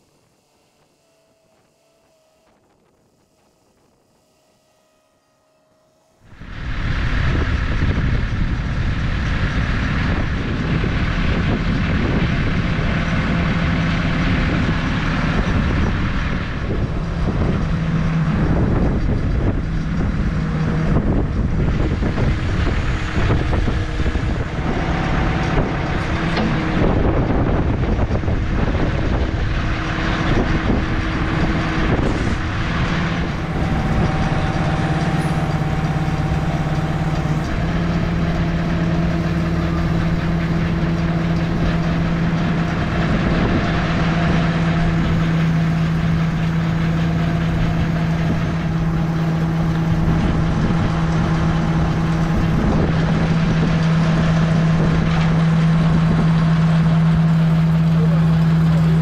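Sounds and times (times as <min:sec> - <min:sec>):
heavy machine engine idling: 0:00.0 - 0:59.0
wind buffeting microphone: 0:06.2 - 0:59.0.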